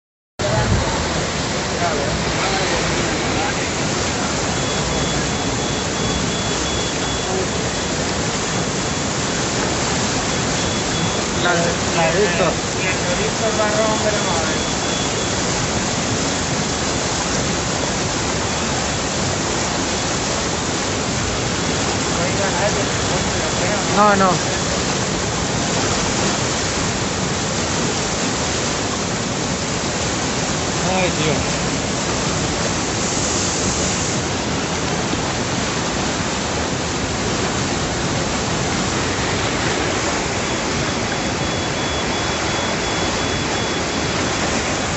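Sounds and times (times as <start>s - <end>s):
floodwater rushing: 0.4s - 44.9s.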